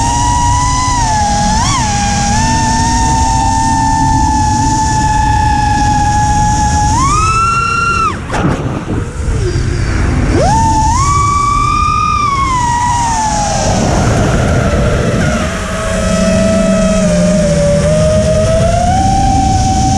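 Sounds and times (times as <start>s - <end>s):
drone motors whining: 0.0s - 19.9s
wind rush: 0.0s - 19.9s.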